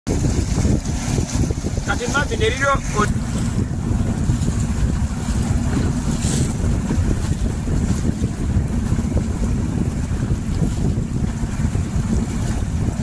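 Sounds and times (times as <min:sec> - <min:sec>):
boat low rumble: 0:00.1 - 0:13.0
wind buffeting microphone: 0:00.1 - 0:13.0.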